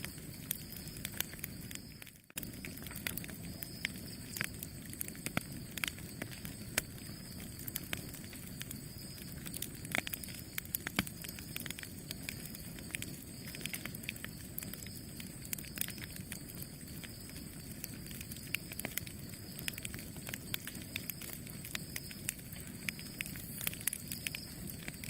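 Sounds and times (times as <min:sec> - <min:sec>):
campfire crackling and popping: 0:00.0 - 0:25.0
low rush of flames: 0:00.1 - 0:25.0.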